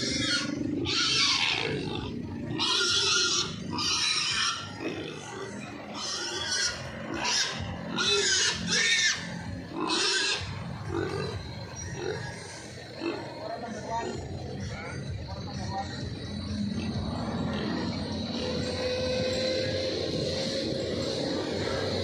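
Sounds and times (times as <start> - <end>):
pigs grunting: 0.0 - 22.0
pigs squealing: 0.0 - 22.0.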